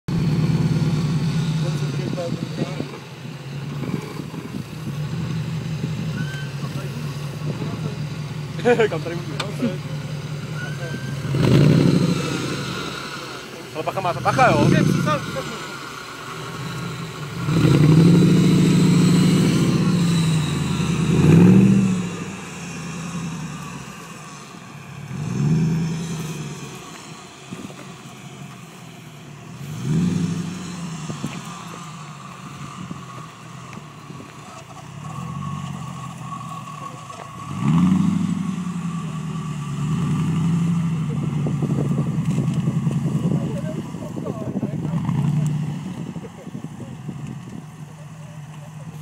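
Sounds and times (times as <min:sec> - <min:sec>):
buggy engine revving: 0:00.0 - 0:49.0.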